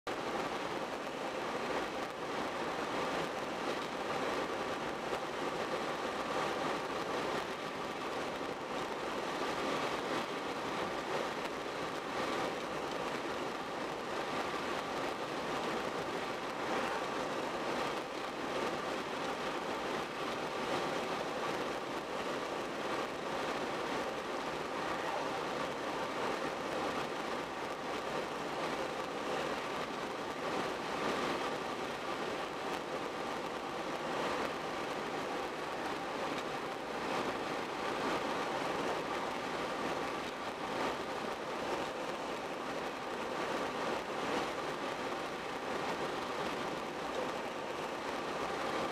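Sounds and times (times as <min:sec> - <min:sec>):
wind: 0:00.0 - 0:48.9.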